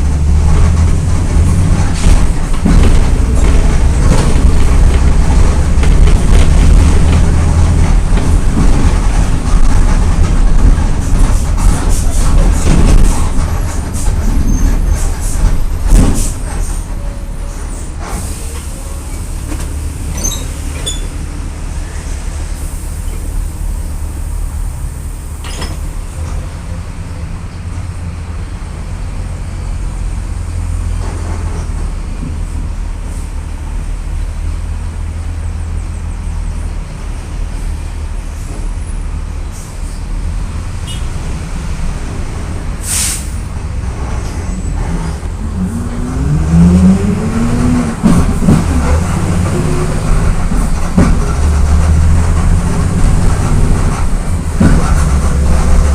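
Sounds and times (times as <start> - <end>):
bus engine droning: 0.0 - 55.9.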